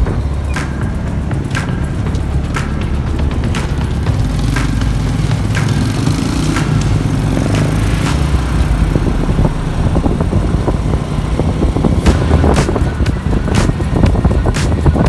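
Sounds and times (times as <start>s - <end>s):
motorcycle engine rumble: 0.0s - 15.0s
road noise: 0.0s - 15.0s.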